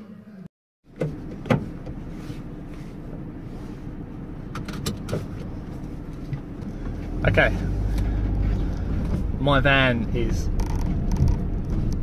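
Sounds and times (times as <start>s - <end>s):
diesel engine hum: 0.8s - 12.0s.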